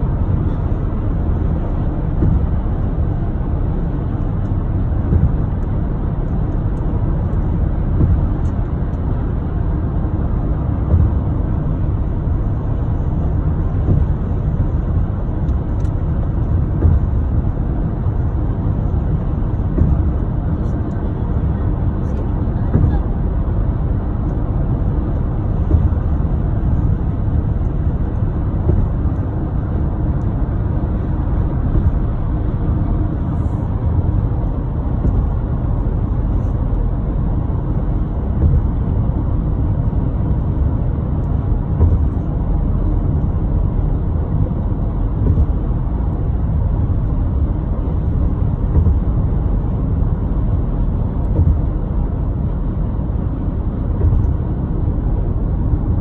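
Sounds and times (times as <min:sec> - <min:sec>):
car engine at highway speed: 0:00.0 - 0:56.0
tyre road noise: 0:00.0 - 0:56.0.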